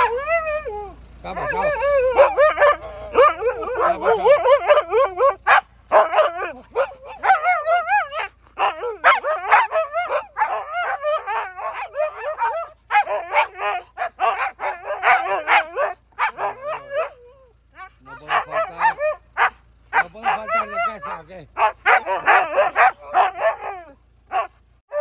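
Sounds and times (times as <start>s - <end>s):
dogs howling whining and yipping: 0.0s - 25.0s.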